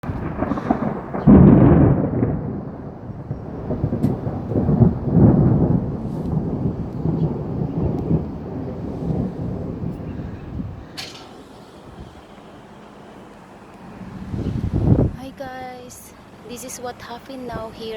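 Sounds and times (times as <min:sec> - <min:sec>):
thunder rumbling: 0:00.0 - 0:17.9.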